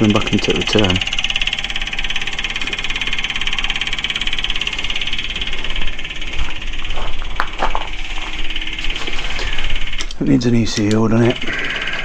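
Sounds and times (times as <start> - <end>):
electric fuel pump buzzing: 0.0 - 12.0.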